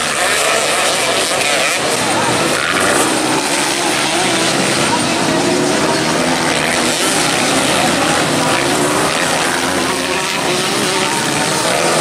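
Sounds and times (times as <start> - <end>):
dirt bike engines racing: 0.0 - 12.0.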